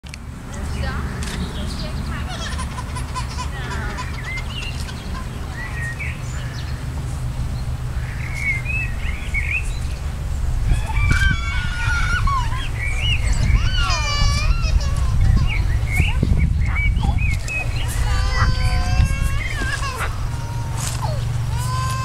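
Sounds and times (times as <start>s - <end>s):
birds calling and chirping: 0.5s - 22.0s
wind rumble on microphone: 3.7s - 22.0s.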